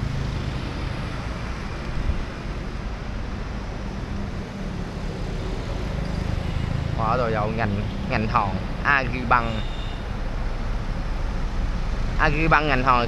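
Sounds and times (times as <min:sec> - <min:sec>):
city street traffic: 0:00.0 - 0:13.0
passing vehicle engines rumbling: 0:00.0 - 0:13.0.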